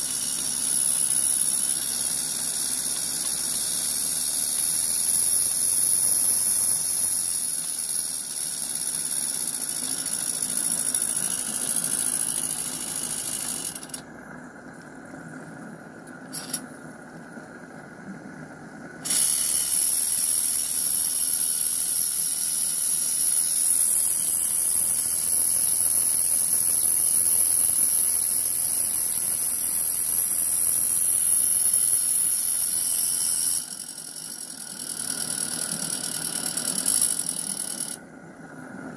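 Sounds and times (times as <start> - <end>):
steam boiler hissing: 0.0 - 13.7, 19.0 - 37.8.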